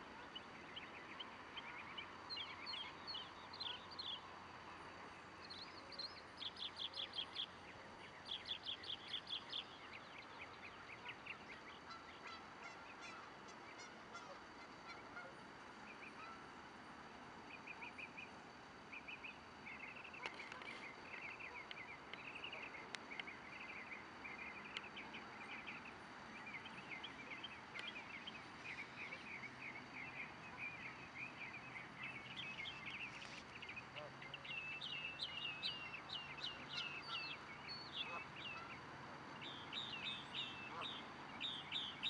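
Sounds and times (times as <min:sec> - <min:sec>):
faint background hiss: 0:00.0 - 0:42.0
birds chirping rapidly: 0:05.4 - 0:16.4, 0:17.5 - 0:42.0.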